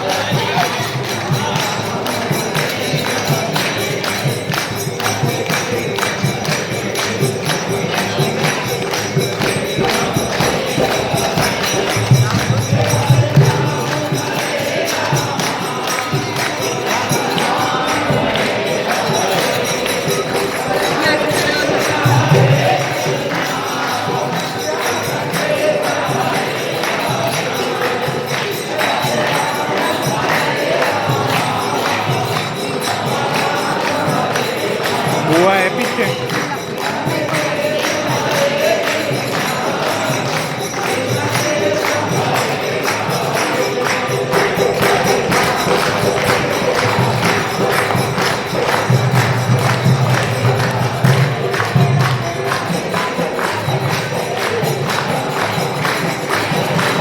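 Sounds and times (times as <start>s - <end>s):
group singing a chant: 0.0s - 57.0s
jingling hand percussion: 0.0s - 57.0s.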